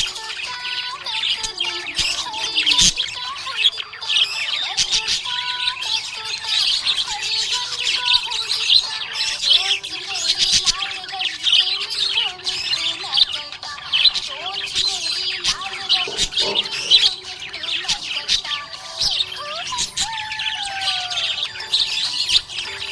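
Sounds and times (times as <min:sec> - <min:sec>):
bird squawk: 0:00.0 - 0:22.9
budgerigars chirping: 0:00.0 - 0:22.9.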